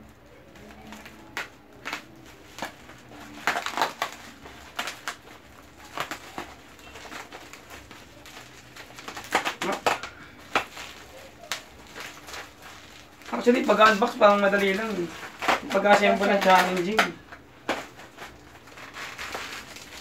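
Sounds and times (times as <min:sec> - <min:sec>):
bubble wrap crackling: 0:00.0 - 0:20.0.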